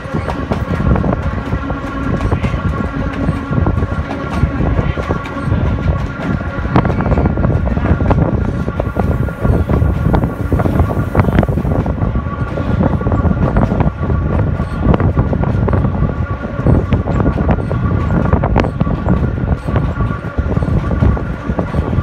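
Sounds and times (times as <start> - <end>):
train rumble: 0.0 - 22.0
wheels clattering over rails: 0.0 - 22.0.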